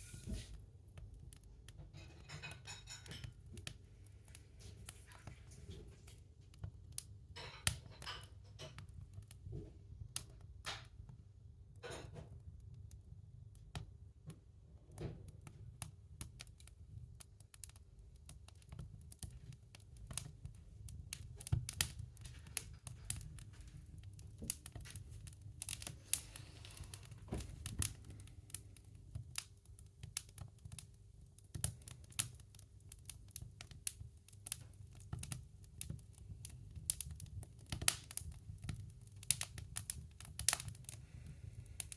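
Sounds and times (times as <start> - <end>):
fire crackling and snapping: 0.0 - 11.8, 12.4 - 14.4, 15.3 - 41.9.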